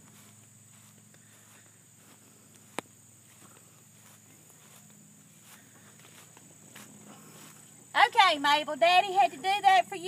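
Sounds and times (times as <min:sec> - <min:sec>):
insect drone: 0:00.0 - 0:10.0.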